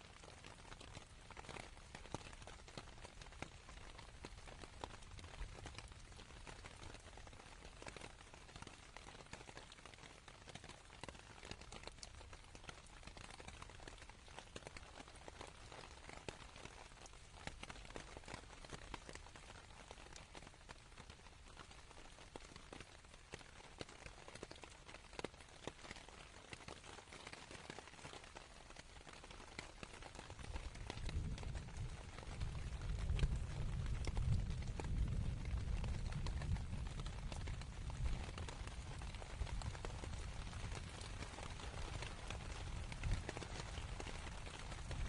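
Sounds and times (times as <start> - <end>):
rain on tent canvas: 0.0 - 45.0.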